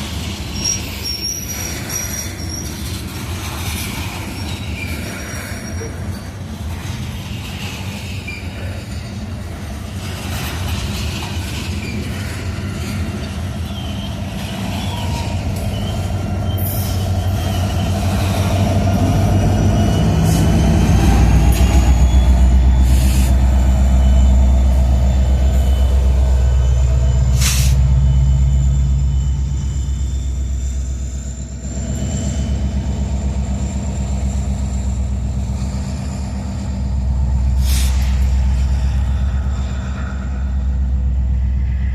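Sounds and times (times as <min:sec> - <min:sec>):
freight cars rolling on rails: 0:00.0 - 0:41.9
high wheel squeal: 0:00.1 - 0:06.5, 0:07.2 - 0:09.3, 0:10.2 - 0:41.9.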